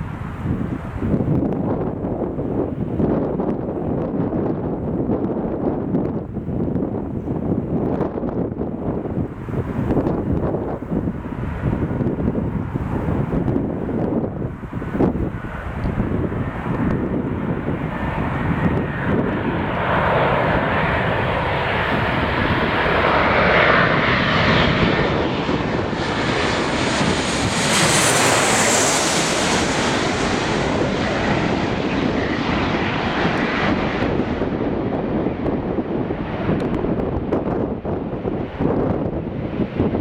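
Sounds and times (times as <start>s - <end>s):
airliner passing overhead: 0.0s - 40.0s.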